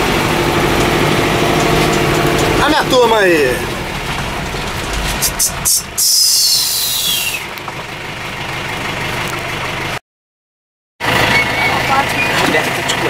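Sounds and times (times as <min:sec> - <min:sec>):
diesel engine idling: 0:00.0 - 0:10.0, 0:11.0 - 0:13.0.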